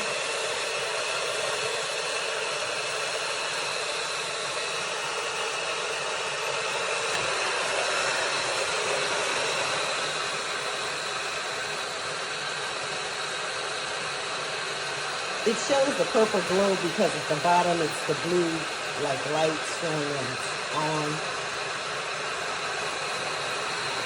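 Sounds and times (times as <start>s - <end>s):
electric kettle boiling water: 0.0s - 24.0s.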